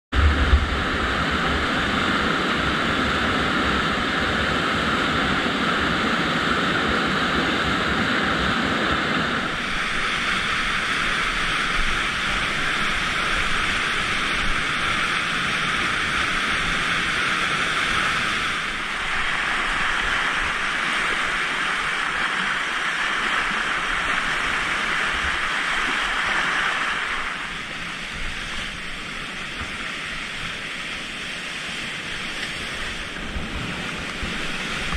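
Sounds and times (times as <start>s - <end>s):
water rushing over a weir: 0.1s - 34.9s.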